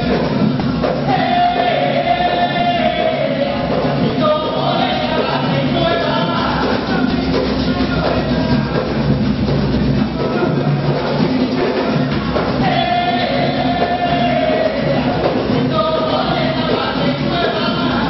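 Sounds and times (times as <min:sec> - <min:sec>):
voices singing along: 0:00.0 - 0:09.2, 0:09.9 - 0:18.0
hand drum rhythm: 0:00.0 - 0:18.0.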